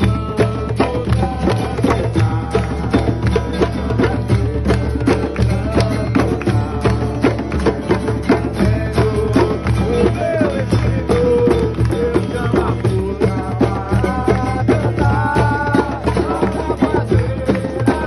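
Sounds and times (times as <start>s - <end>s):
driving hand percussion: 0.0s - 18.0s.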